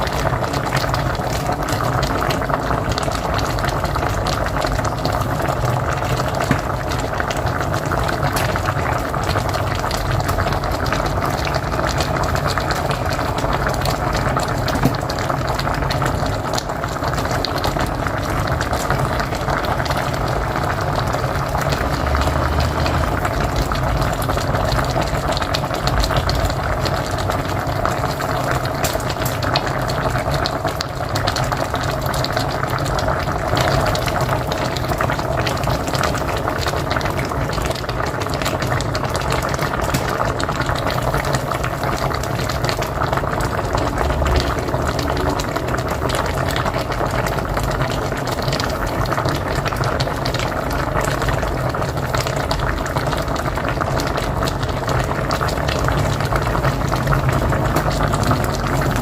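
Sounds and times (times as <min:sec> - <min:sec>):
pot boiling and bubbling: 0:00.0 - 0:59.0.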